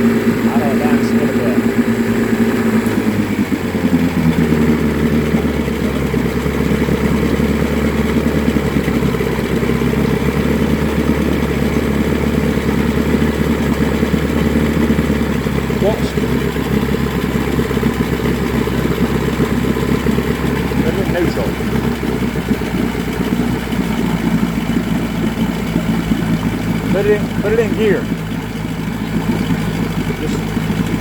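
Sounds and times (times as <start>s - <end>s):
outboard motor idling: 0.0s - 31.0s.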